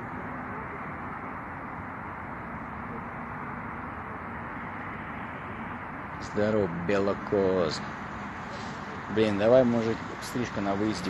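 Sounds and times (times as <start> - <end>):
traffic rush: 0.0 - 11.0.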